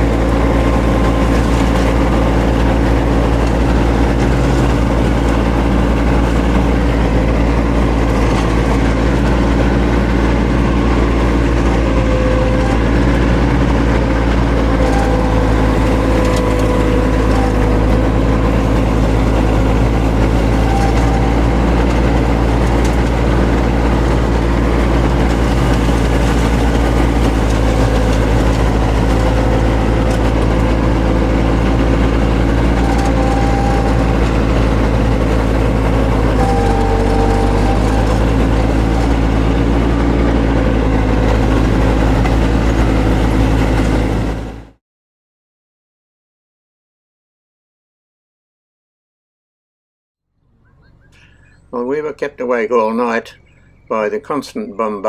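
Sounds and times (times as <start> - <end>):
ride-on mower engine running: 0.0 - 44.8.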